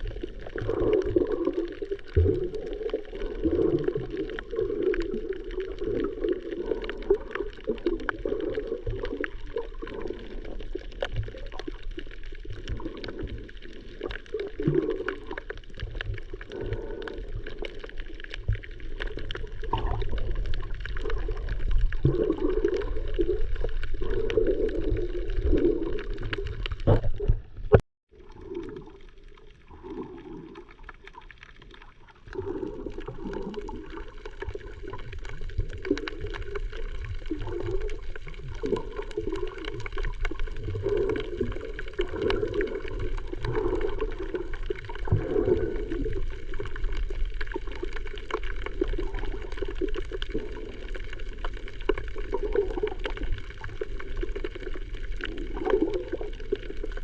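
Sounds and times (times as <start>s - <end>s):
muffled underwater water sloshing: 0.0s - 57.0s.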